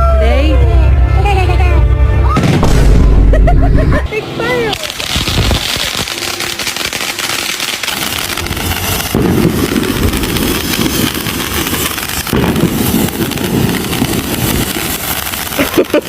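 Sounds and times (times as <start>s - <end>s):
fireworks crackling and popping: 2.3s - 16.0s.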